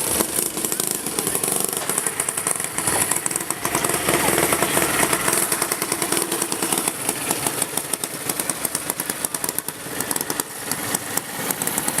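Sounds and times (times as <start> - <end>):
racing lawn mower engines: 0.0 - 12.0.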